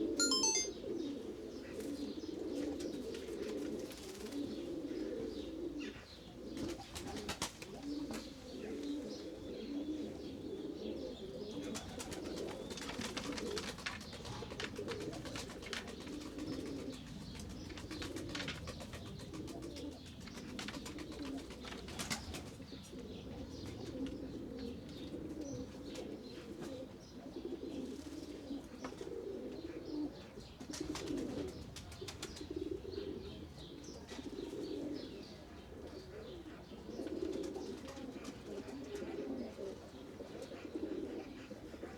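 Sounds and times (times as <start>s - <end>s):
pigeons cooing: 1.0s - 41.9s.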